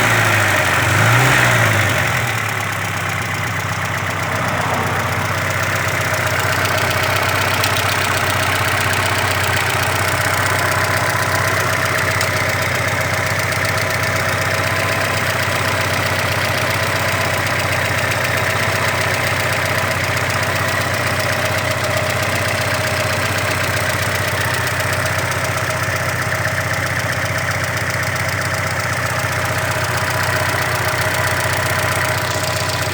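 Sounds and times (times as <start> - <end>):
car engine idling with knock: 0.0 - 32.9.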